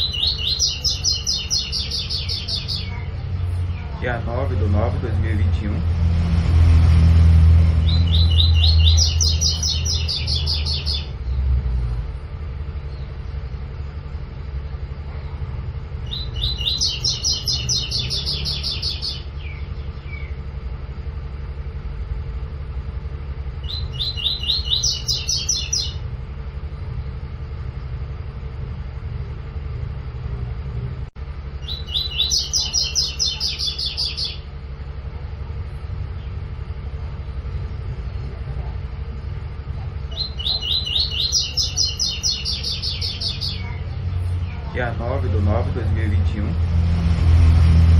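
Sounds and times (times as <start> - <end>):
steady low rumble: 0.0 - 47.9.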